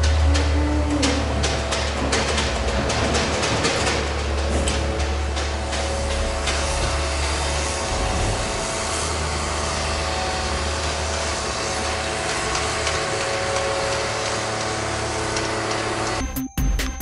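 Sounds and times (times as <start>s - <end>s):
machinery humming and whining: 0.0s - 16.4s.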